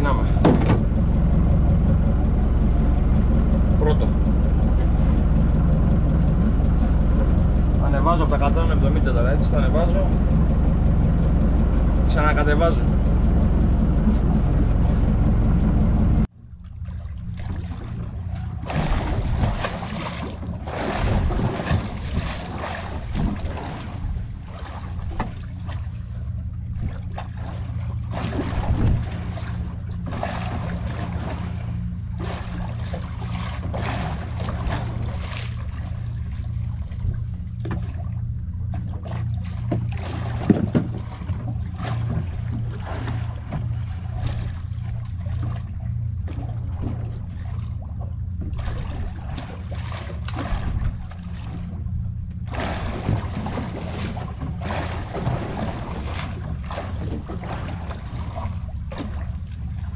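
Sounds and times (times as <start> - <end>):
boat engine idling: 0.0 - 59.9
water lapping against hull: 0.0 - 59.9.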